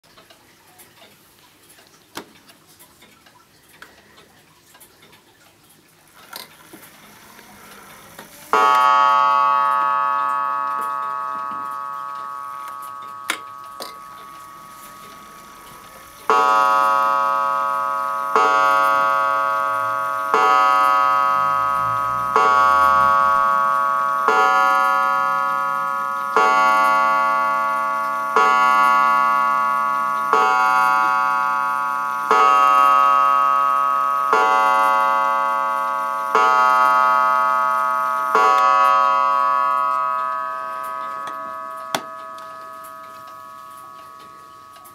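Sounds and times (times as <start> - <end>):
mantel clock striking gong: 8.5 - 44.9.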